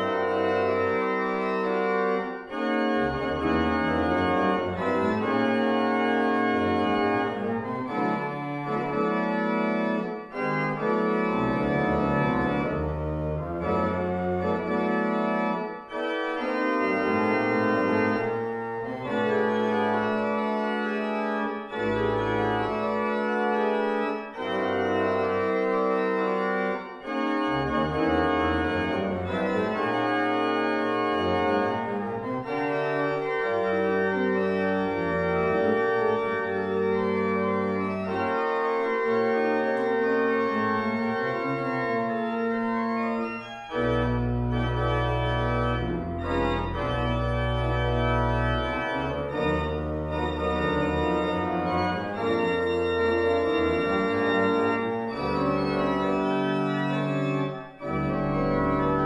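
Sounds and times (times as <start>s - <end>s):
deep organ pedal bass notes: 0.0s - 59.0s
pipe organ chords: 0.0s - 59.0s.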